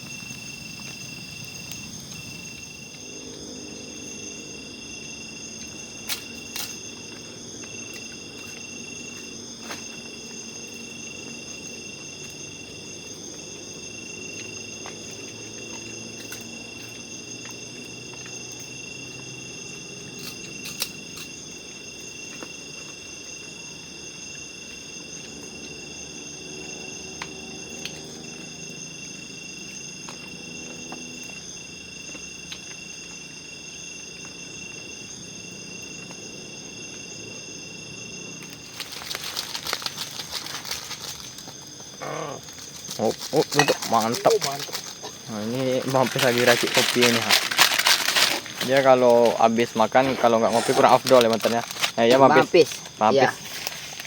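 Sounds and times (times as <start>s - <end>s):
crickets and insects trilling: 0.0s - 54.0s.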